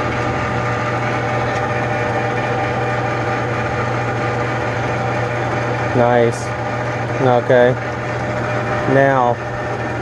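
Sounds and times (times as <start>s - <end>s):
metal lathe humming: 0.0s - 10.0s.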